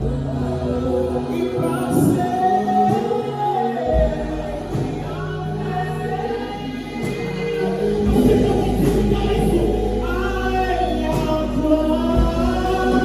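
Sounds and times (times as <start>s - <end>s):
choir singing gospel: 0.0s - 13.0s
low held bass notes: 0.0s - 13.0s.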